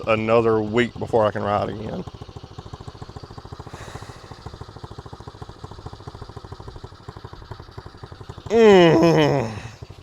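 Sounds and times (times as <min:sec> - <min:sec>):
motorbike engine idling: 0:00.0 - 0:10.0.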